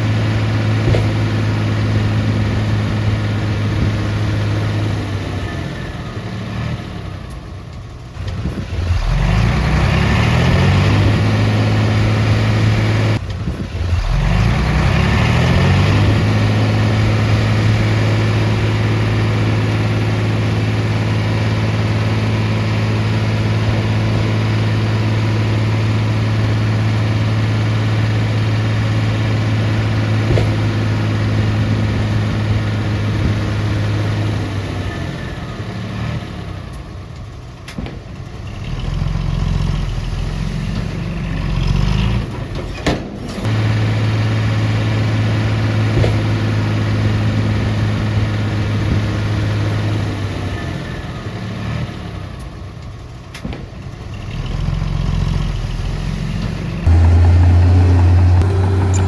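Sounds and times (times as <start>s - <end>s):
heavy diesel engine under load: 0.0s - 59.0s.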